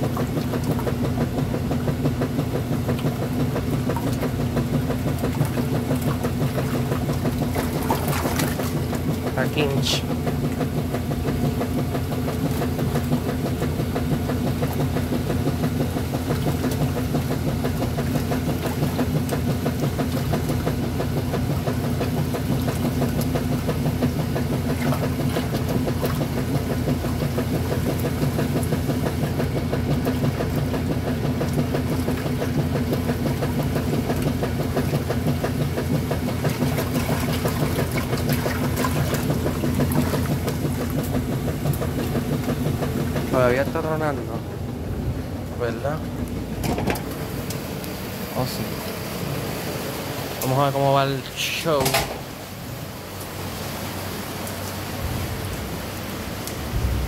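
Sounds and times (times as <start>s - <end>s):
washing machine humming: 0.0s - 57.0s.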